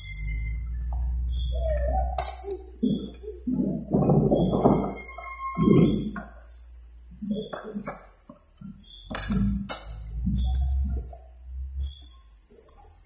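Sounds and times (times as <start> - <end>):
strapping tool clinking and creaking: 0.8 - 13.0.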